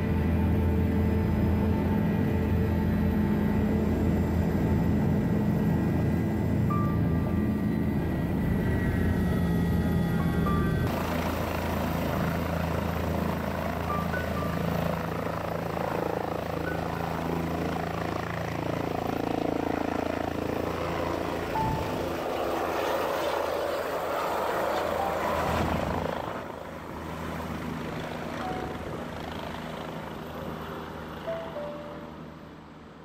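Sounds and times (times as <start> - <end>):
helicopter flying: 0.0 - 33.0.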